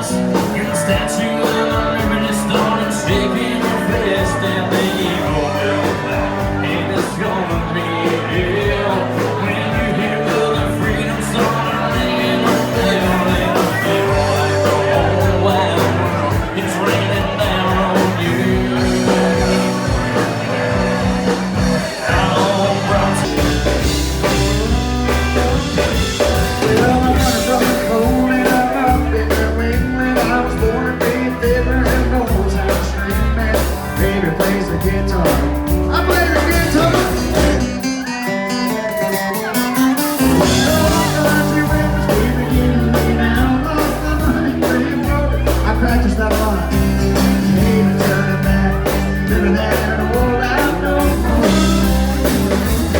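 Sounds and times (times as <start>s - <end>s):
country band music: 0.0s - 52.9s.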